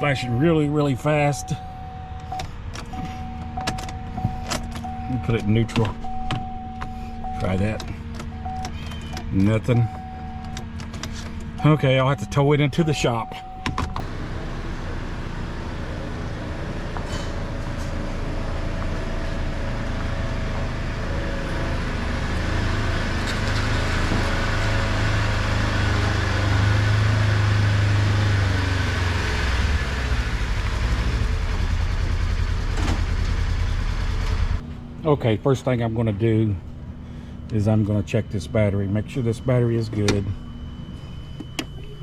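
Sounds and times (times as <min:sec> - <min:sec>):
road noise: 0:00.0 - 0:42.0
vehicle engine rumble: 0:00.0 - 0:42.0.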